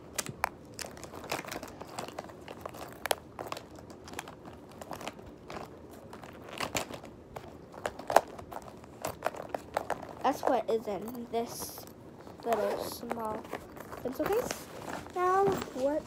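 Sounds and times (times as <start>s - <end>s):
crinkling rustles: 0.0s - 16.0s.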